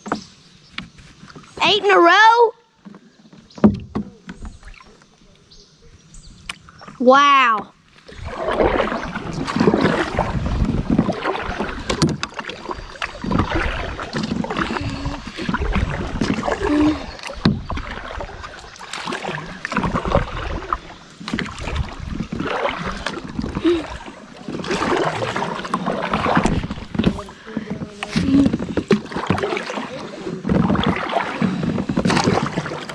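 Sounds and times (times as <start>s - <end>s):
paddle swishing through water: 0.0s - 32.9s.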